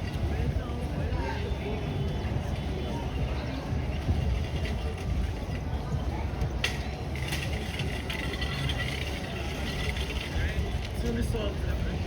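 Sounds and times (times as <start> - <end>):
traffic and crowd rumble: 0.0 - 12.0.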